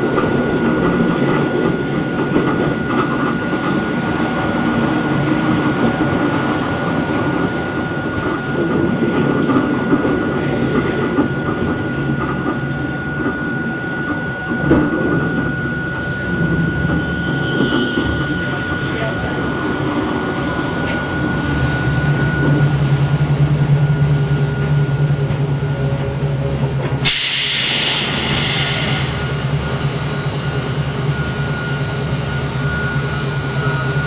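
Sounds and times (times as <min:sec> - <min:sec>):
train motors and wheels rumbling: 0:00.0 - 0:34.0.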